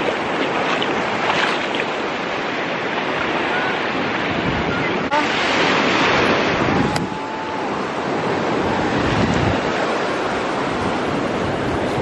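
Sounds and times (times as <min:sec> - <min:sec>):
ocean waves breaking: 0:00.0 - 0:12.0
wind buffeting microphone: 0:00.0 - 0:12.0.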